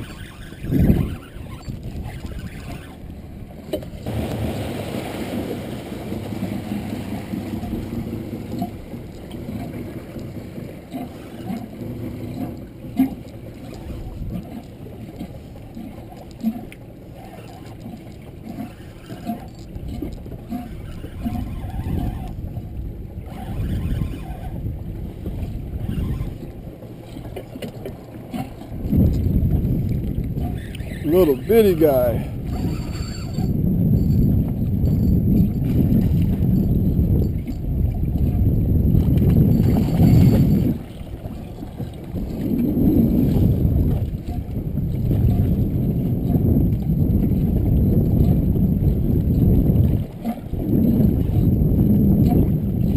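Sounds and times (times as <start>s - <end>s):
water lapping against boat hull: 0.0s - 52.9s
wind rumble on microphone: 0.0s - 52.9s.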